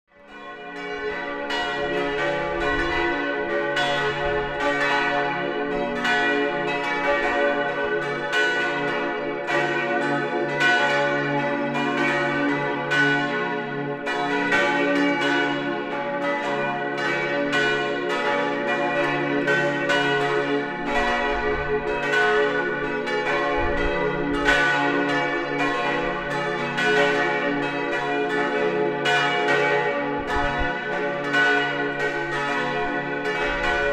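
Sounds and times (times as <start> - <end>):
church bells ringing: 0.1 - 33.9.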